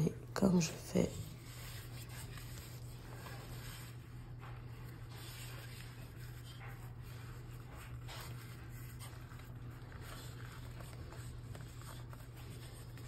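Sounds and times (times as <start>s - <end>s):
tortilla rustling: 1.1s - 13.0s.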